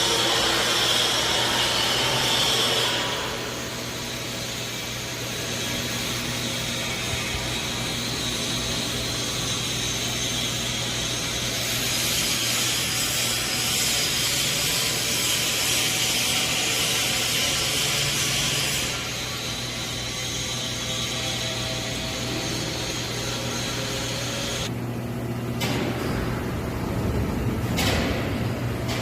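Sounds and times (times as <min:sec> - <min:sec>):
welding arc hissing: 0:00.0 - 0:24.7
constant low hum: 0:00.0 - 0:29.0.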